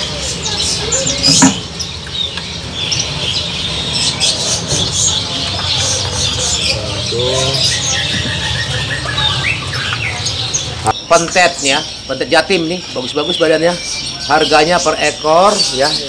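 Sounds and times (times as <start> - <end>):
songbirds chirping and calling: 0.0 - 16.0.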